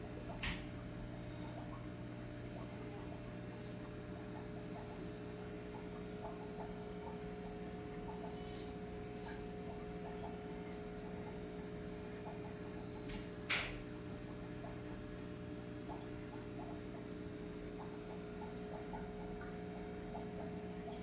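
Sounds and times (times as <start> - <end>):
aquarium equipment hum: 0.0 - 21.0.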